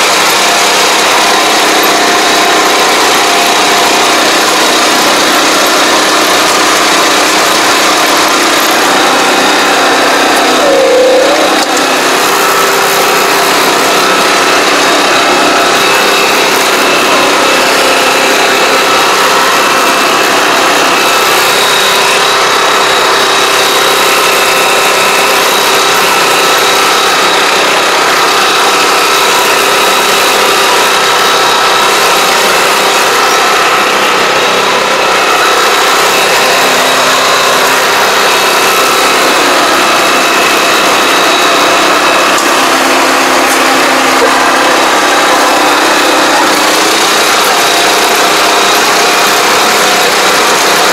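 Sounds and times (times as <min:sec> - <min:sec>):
small engine droning with whine: 0:00.0 - 0:50.9.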